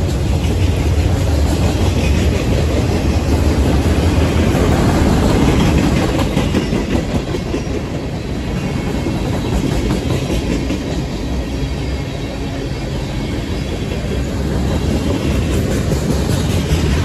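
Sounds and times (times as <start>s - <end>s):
freight cars rolling on rails: 0.0s - 17.0s.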